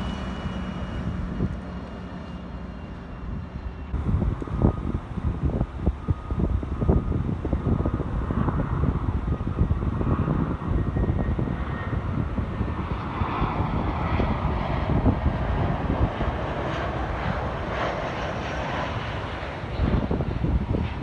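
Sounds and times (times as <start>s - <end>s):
wind rumbling on microphone: 0.0s - 2.2s, 3.1s - 21.0s
jet airliner passing: 0.0s - 21.0s.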